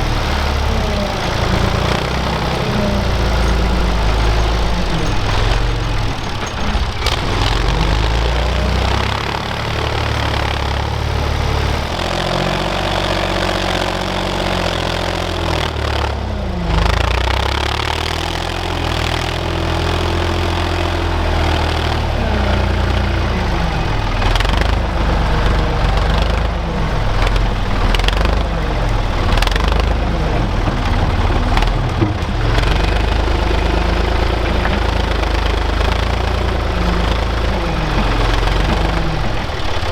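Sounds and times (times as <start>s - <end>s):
earthmoving machine engine running: 0.0s - 39.9s.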